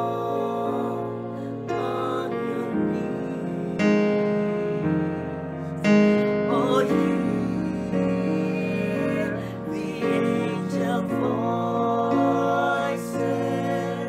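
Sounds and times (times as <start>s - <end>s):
piano chords: 0.0s - 14.0s
voices singing together: 0.0s - 14.0s.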